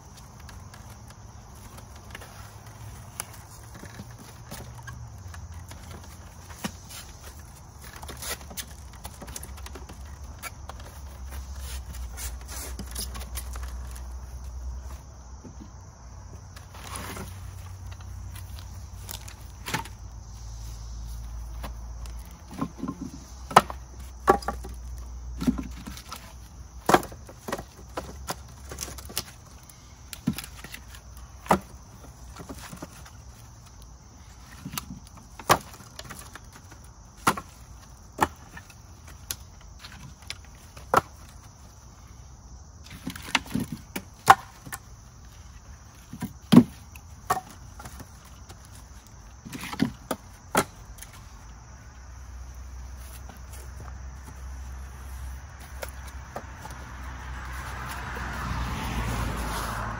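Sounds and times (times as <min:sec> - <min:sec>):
high insect trill: 0:00.0 - 0:59.9
firewood pieces clunking: 0:00.1 - 0:20.2, 0:21.4 - 0:41.8, 0:42.8 - 0:58.9.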